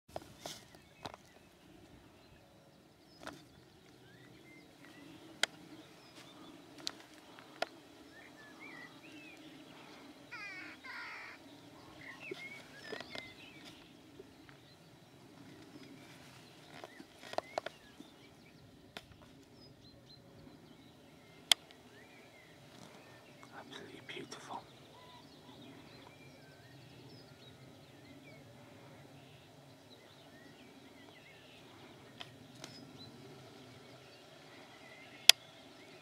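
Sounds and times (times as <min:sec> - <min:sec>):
birds chirping: 0:00.2 - 0:36.0.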